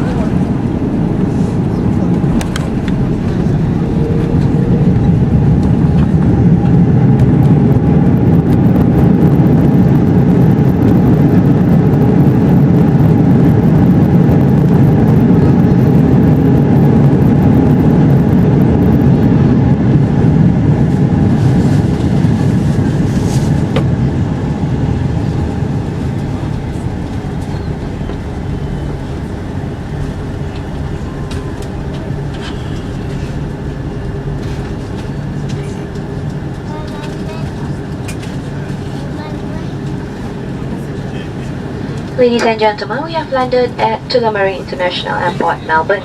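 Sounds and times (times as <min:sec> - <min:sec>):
jet reverse thrust rumble: 0:00.0 - 0:46.0.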